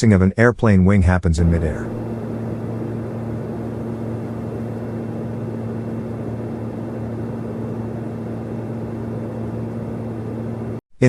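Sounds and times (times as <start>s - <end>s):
airplane engine drone: 1.3s - 10.8s.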